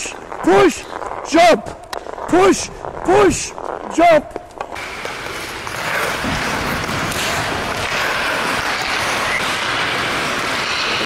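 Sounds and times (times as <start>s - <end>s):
skate blades scraping ice: 0.0s - 11.0s.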